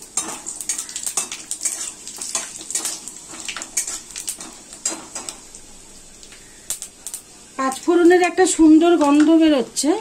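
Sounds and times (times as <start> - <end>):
faint oil sizzle: 0.0 - 10.0.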